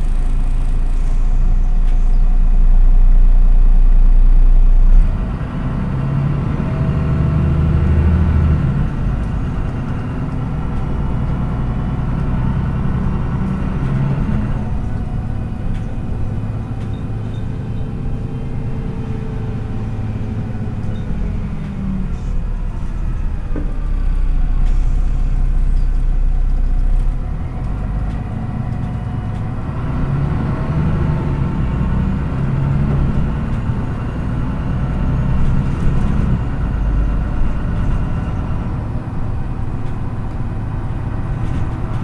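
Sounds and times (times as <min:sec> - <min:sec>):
bus diesel engine: 0:00.0 - 0:42.0
road noise: 0:00.0 - 0:42.0.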